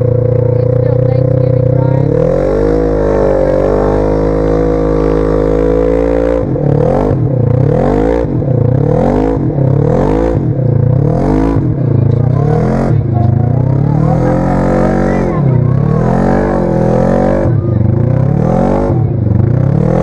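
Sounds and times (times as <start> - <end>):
engine revving in bursts: 0.0 - 20.0.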